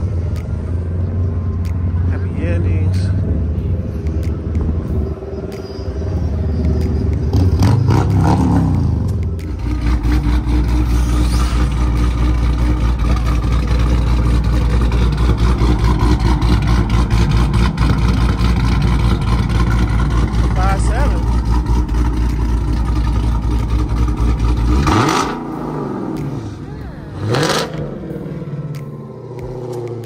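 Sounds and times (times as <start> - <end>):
car engine revving and rumbling: 0.0 - 30.0.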